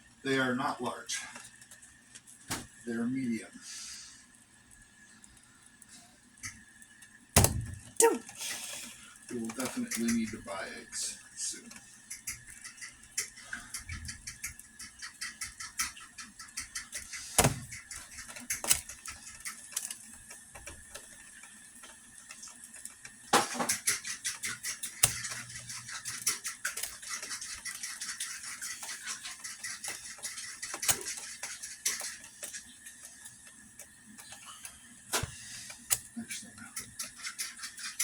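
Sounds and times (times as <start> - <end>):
teapot clicks and rattles: 7.4 - 38.0.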